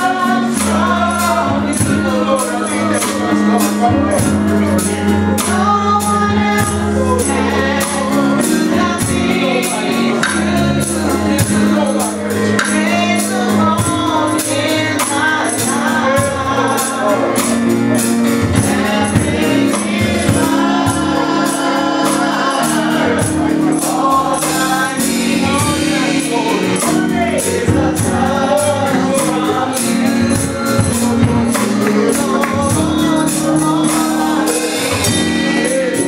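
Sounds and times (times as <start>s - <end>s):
percussion beat: 0.0s - 36.0s
voices singing gospel: 0.0s - 36.0s.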